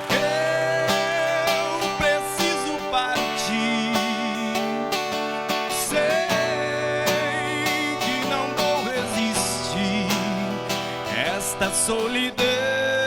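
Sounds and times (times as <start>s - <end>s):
plucked guitar strings: 0.0s - 13.0s.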